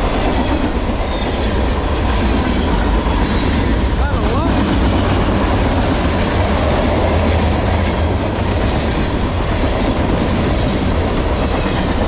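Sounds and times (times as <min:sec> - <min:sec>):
freight train wheels rumbling: 0:00.0 - 0:12.0
wheels clacking at rail joints: 0:00.0 - 0:12.0.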